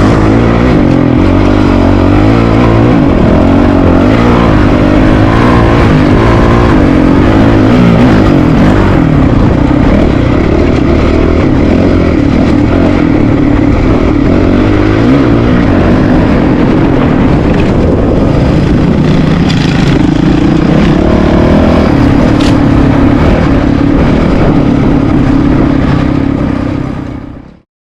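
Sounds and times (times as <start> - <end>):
dirt bike engine running: 0.0 - 27.6.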